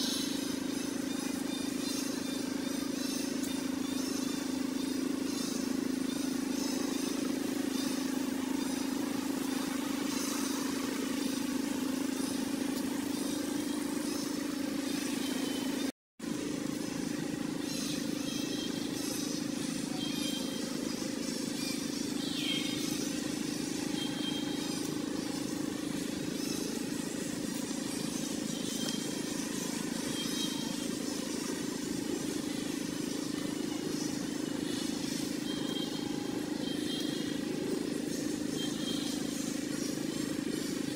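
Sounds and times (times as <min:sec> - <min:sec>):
low mechanical hum: 0:00.0 - 0:40.9.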